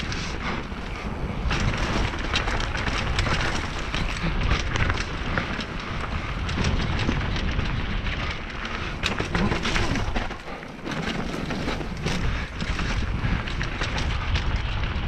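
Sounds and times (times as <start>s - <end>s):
bike rattling over bumps: 0.0s - 15.0s
wind rumbling on microphone: 0.0s - 15.0s.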